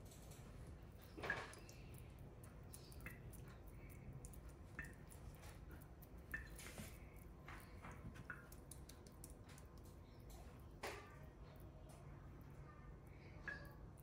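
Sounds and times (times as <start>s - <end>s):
small sticky clicks: 0.0s - 12.1s.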